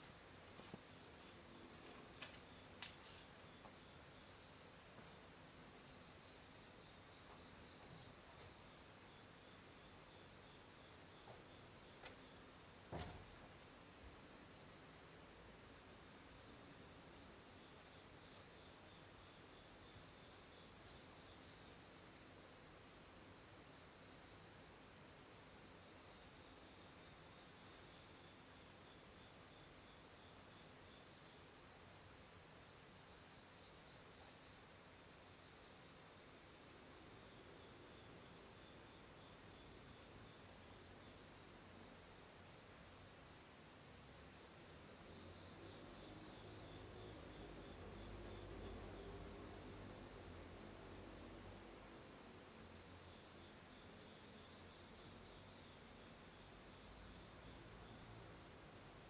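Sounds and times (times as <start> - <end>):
fast pulsing insect chirp: 0.0 - 59.0
insects trilling: 0.0 - 59.0.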